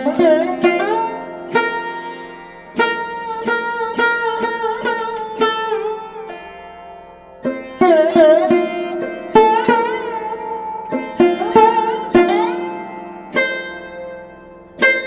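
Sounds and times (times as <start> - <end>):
plucked sitar-style string instrument: 0.0 - 15.0.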